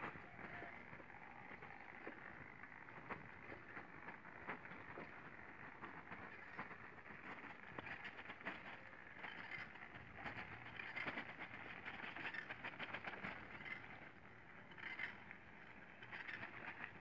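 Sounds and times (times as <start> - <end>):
bike clicks and rattles: 0.0 - 17.0.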